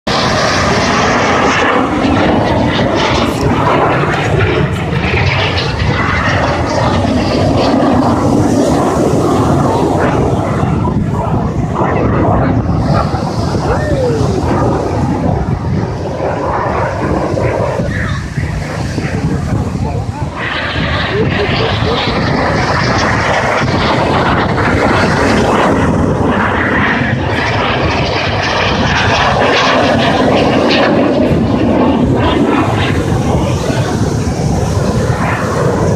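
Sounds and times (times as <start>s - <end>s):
aircraft engine in flight: 0.0s - 35.9s.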